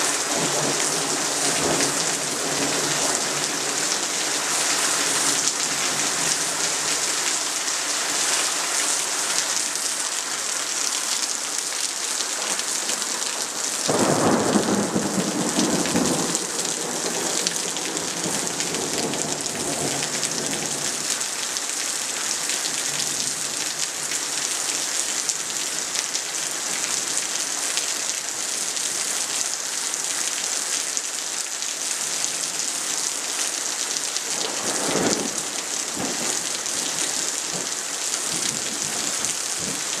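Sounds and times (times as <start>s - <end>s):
heavy rain hissing: 0.0s - 40.0s.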